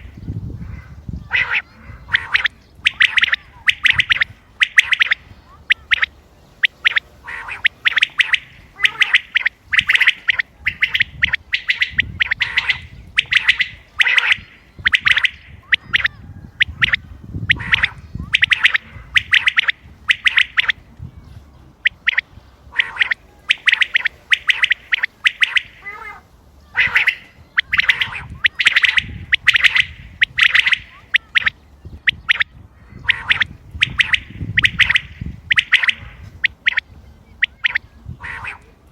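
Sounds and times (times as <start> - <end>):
quail calling: 0.0 - 20.9, 21.7 - 38.9.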